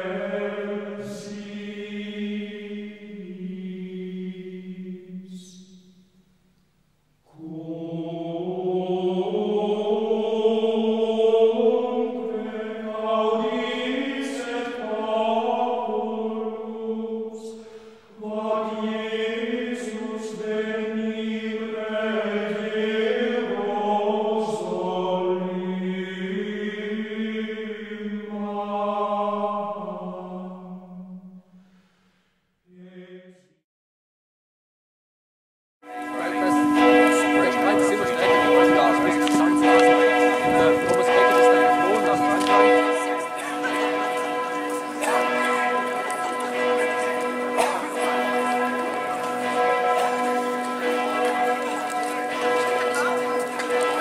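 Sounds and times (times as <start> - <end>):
slow choral chant: 0.0 - 6.1, 7.2 - 31.8, 32.7 - 33.6, 35.9 - 54.0.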